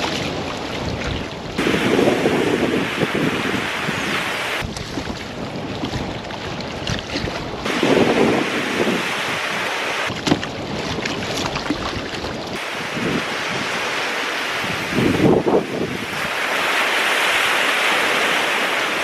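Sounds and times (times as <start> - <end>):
small waves breaking on beach: 0.0 - 19.0
water splashing around kayak: 0.0 - 19.0
wind on microphone: 0.0 - 19.0.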